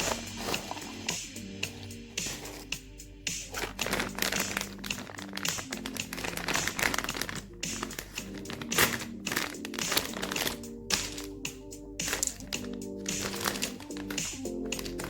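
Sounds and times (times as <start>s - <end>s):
plastic wrapper crinkling: 0.0s - 2.8s, 3.4s - 11.4s, 12.0s - 15.0s
background music: 0.0s - 15.0s.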